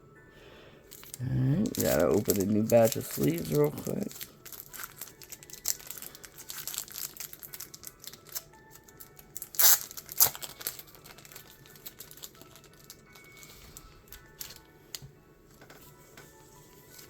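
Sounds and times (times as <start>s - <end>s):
plastic packaging crinkling: 0.9s - 14.7s
plastic tearing: 0.9s - 15.0s.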